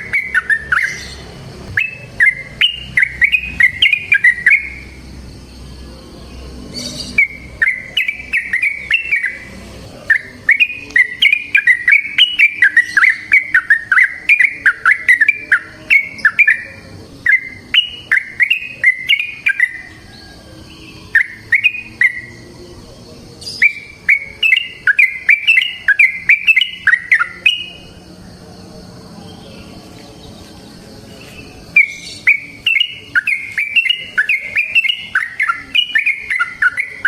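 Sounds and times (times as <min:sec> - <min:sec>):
bird singing bubbling song: 0:00.0 - 0:05.0, 0:06.8 - 0:22.7, 0:23.4 - 0:27.8, 0:31.2 - 0:37.0.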